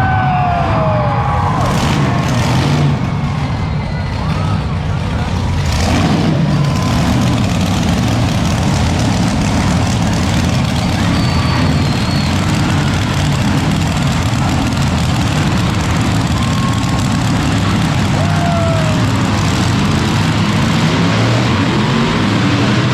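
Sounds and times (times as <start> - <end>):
loud truck engines running: 0.0 - 22.9.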